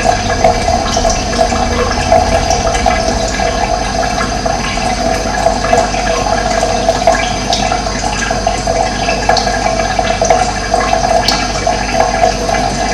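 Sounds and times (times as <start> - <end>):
running water rushing: 0.0 - 12.9.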